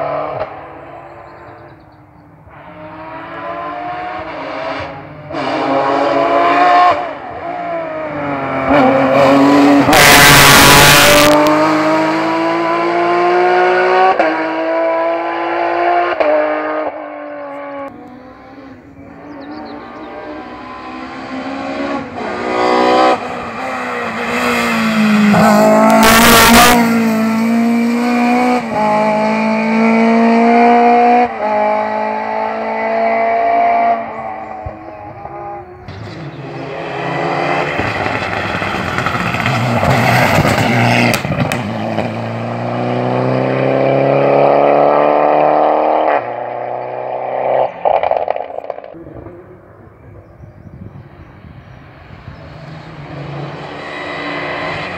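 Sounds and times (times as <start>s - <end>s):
rally car engine revving: 2.4s - 50.3s, 52.4s - 54.9s.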